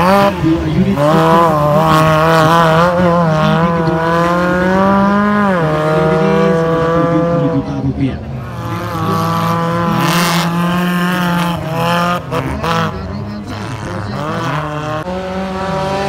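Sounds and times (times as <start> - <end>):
race vehicle engine revving: 0.0 - 16.0.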